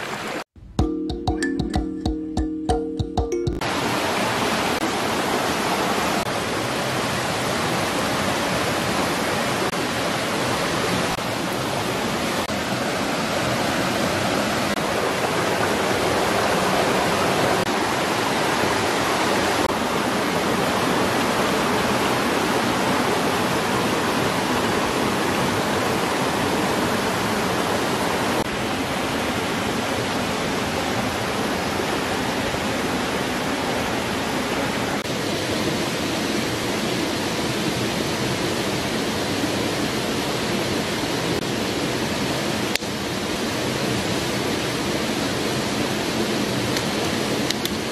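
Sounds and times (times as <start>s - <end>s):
stream rushing over rocks: 0.0s - 0.4s, 3.3s - 47.9s.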